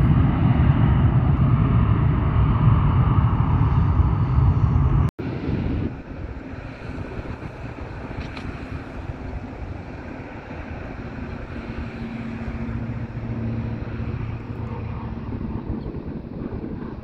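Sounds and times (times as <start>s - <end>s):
distant engine rumble: 0.0s - 17.0s.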